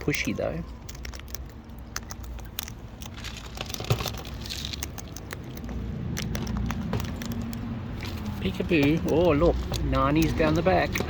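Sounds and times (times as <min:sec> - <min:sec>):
beaks and claws clicking: 0:00.0 - 0:11.0.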